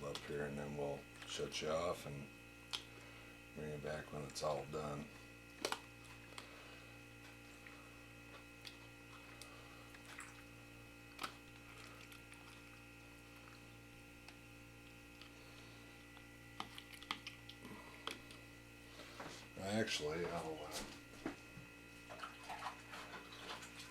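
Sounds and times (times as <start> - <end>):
faint electrical hum: 0.0 - 23.9.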